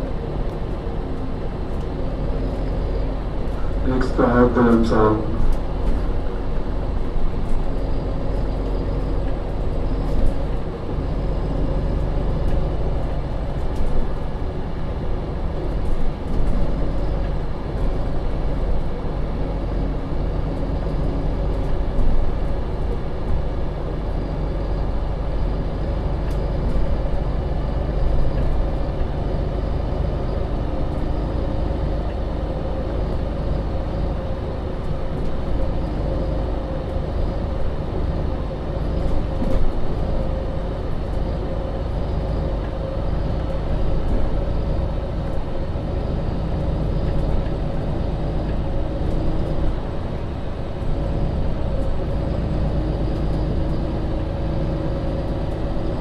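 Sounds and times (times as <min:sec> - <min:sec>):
bus engine drone with whine: 0:00.0 - 0:56.0.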